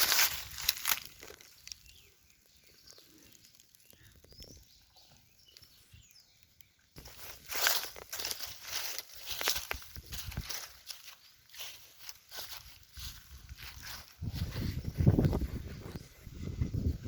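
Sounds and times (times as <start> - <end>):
faint high bird chirps: 1.3 - 16.2.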